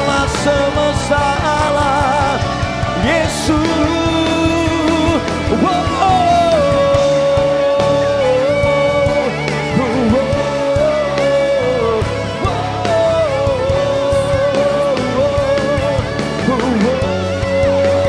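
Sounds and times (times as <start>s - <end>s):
band accompaniment: 0.0s - 18.0s
lead melody with long notes: 0.0s - 18.0s.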